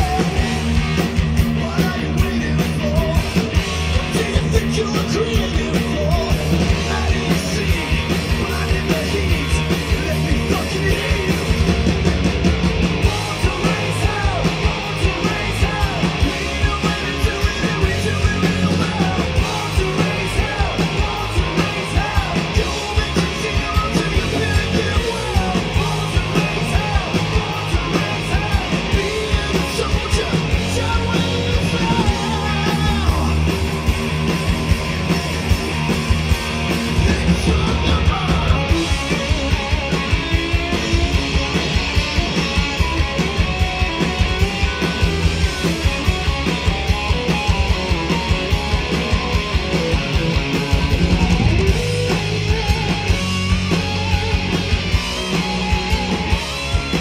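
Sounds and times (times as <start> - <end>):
live hard rock band: 0.0 - 57.0.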